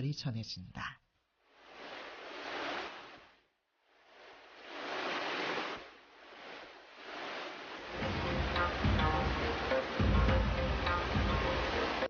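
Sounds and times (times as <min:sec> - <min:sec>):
stream water rushing: 0:01.5 - 0:12.0.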